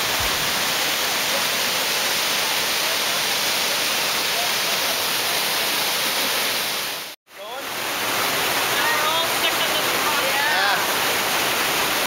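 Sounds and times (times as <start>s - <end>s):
water cascading over boulders: 0.0s - 12.0s.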